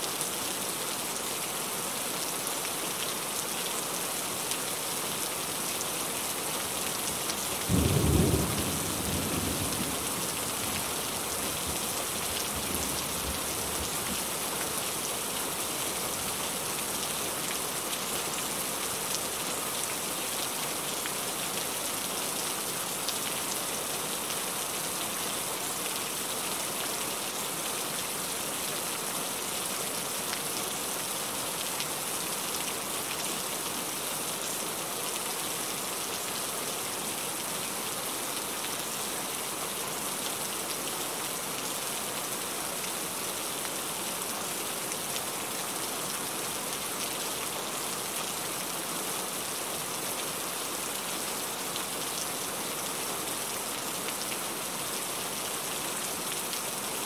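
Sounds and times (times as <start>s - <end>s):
heavy rain falling: 0.1s - 57.0s.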